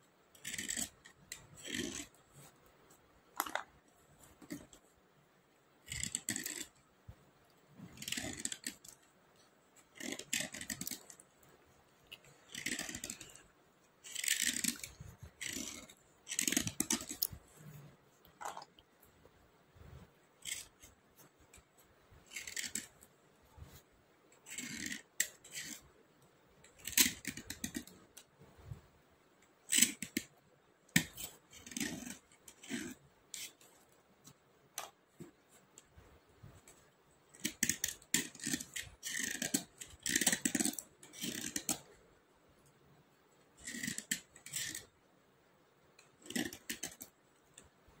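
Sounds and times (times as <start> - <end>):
slate pencils scraping: 0.3 - 4.9, 5.8 - 6.8, 7.7 - 18.8, 19.8 - 25.9, 26.6 - 28.3, 29.6 - 42.0, 43.6 - 44.9, 46.0 - 47.6.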